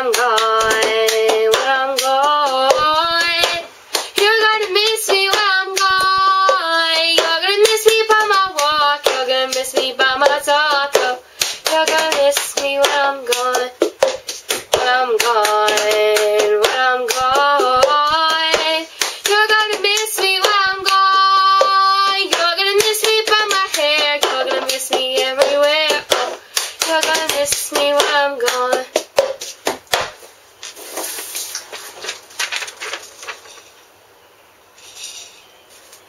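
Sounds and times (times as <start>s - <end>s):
hand claps: 0.0s - 30.8s.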